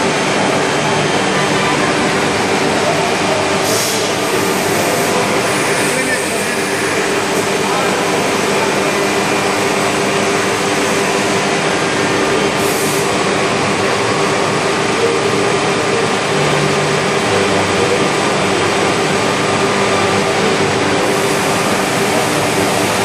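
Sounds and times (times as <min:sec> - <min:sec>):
cnc router machining wood: 0:00.0 - 0:23.0.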